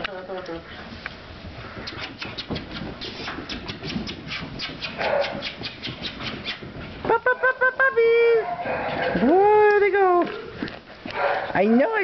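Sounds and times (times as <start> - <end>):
puppies scuffling with rope toy: 0.7 - 7.3, 8.4 - 11.8.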